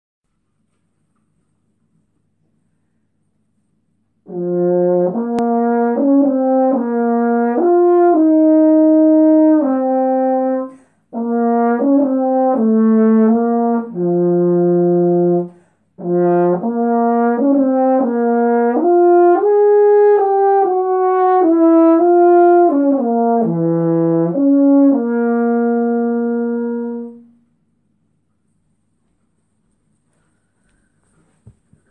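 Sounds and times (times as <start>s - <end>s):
solo french horn melody: 3.5s - 30.0s.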